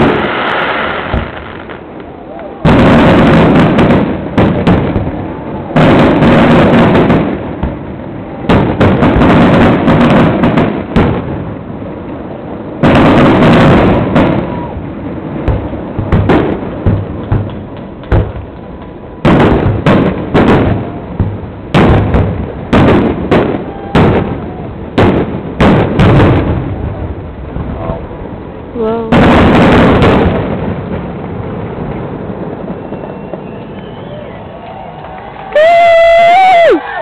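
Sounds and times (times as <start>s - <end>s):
fireworks booming bursts: 0.0s - 37.0s
fireworks crackling pops: 0.0s - 37.0s.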